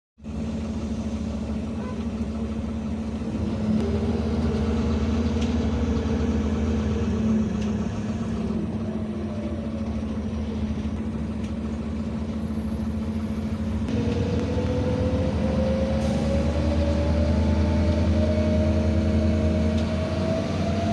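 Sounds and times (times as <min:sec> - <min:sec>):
bus engine running: 0:00.2 - 0:20.9
bus engine whine: 0:00.2 - 0:20.9.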